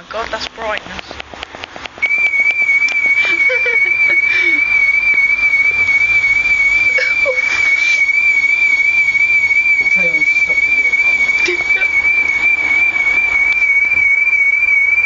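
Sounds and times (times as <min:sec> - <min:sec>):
car alarm siren warbling: 0:02.0 - 0:15.0.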